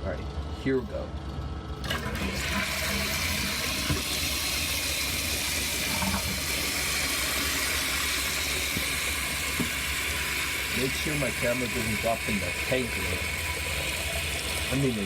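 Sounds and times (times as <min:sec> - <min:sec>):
toilet water rushing: 0:01.8 - 0:15.0.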